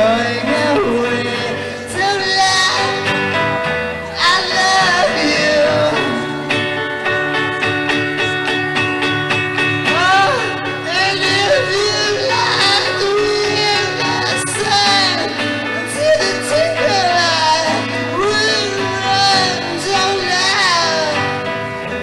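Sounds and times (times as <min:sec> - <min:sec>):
man singing: 0:00.0 - 0:06.8, 0:09.8 - 0:22.0
rock band playing: 0:00.0 - 0:22.0.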